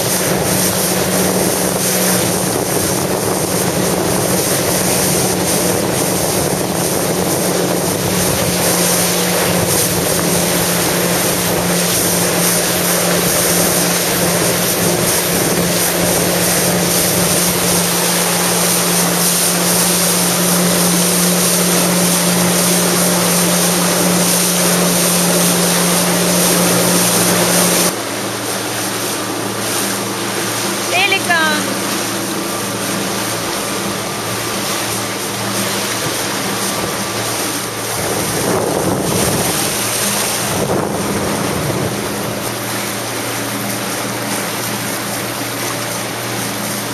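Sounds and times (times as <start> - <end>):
wind buffeting microphone: 0.0 - 28.4, 32.7 - 45.4
jet ski engine running: 0.0 - 46.9
water rushing: 0.0 - 46.9.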